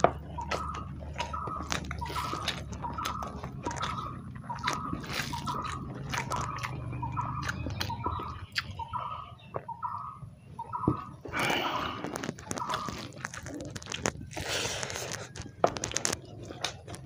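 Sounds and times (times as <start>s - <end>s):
wet clicks of fingers mixing food: 0.0s - 10.0s, 12.1s - 17.0s
chewing and lip-smacking: 0.0s - 17.0s.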